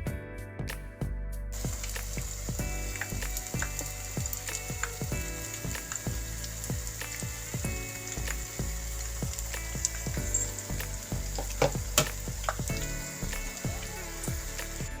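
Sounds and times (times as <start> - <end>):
background music: 0.0 - 15.0
chillies deep-frying in hot oil: 1.6 - 15.0.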